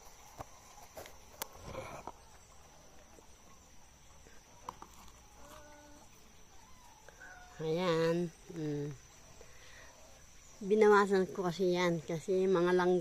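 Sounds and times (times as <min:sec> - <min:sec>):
rustle in vegetation: 0:00.0 - 0:11.9
insects trilling: 0:00.0 - 0:13.0.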